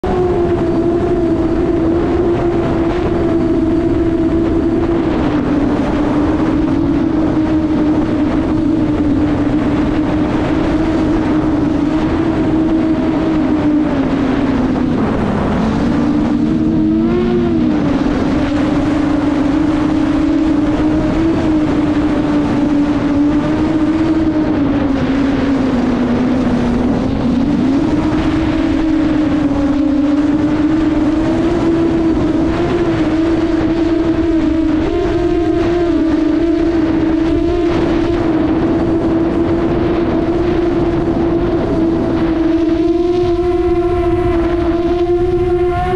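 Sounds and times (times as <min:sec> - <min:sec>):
drone motors whining: 0:00.0 - 0:45.9
rushing air: 0:00.0 - 0:45.9.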